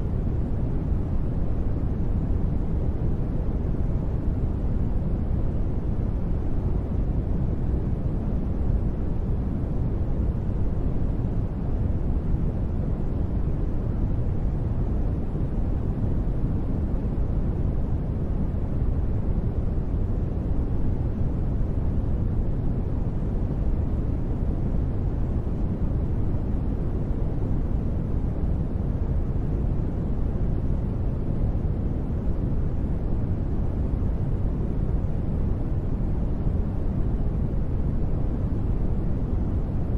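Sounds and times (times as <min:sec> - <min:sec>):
dark rumbling white noise: 0:00.0 - 0:39.9.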